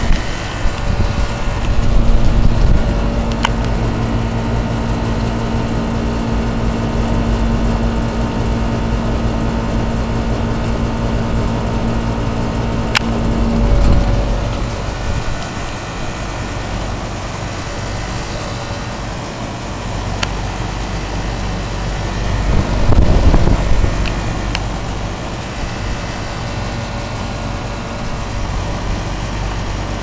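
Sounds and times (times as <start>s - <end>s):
low rumble: 0.0s - 29.4s
air conditioner unit humming: 0.0s - 30.0s.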